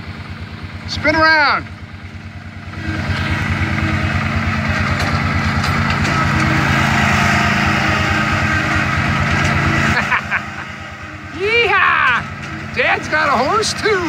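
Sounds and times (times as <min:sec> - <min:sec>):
riding mower running: 0:00.0 - 0:14.0.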